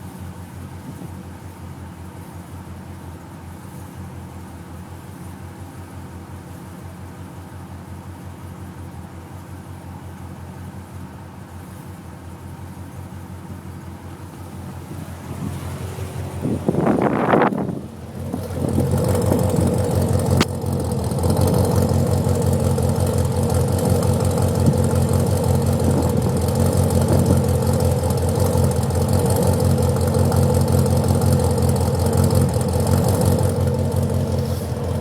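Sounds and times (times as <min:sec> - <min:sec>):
car engine idling with misfire: 0:00.0 - 0:35.0.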